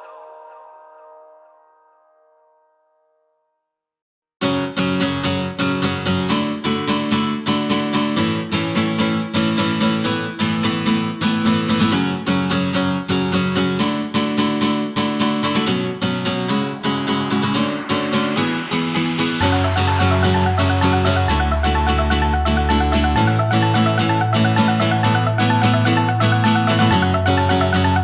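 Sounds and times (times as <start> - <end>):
strummed guitar music: 4.6 - 28.0.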